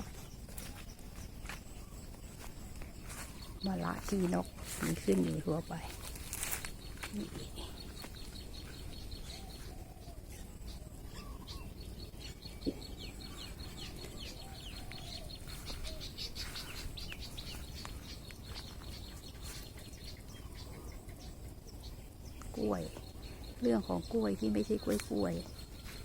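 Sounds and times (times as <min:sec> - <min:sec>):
lower clucking bird calls: 0:00.0 - 0:26.0.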